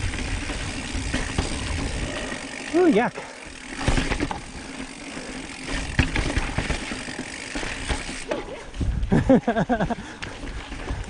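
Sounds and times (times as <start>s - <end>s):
bike knocking and rattling: 0.0s - 11.0s
bike tyres rumbling on rock: 0.0s - 11.0s.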